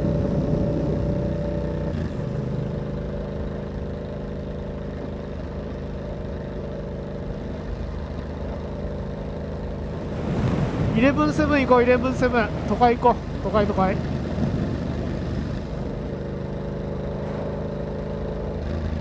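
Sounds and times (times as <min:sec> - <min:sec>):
motorcycle engine running: 0:00.0 - 0:10.2, 0:12.5 - 0:19.0.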